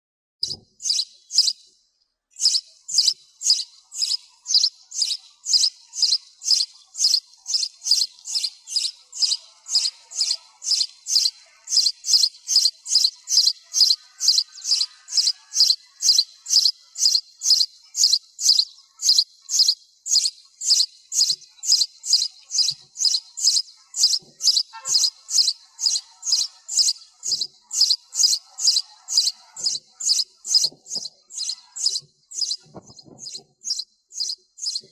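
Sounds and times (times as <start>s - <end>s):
sparrow chirping: 0.4s - 34.9s.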